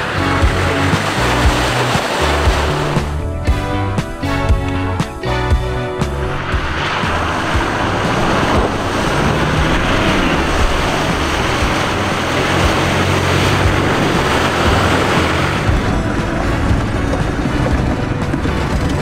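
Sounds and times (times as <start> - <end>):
diesel engine at low revs: 0.0 - 19.0
music: 0.0 - 19.0
water splashing: 0.0 - 19.0.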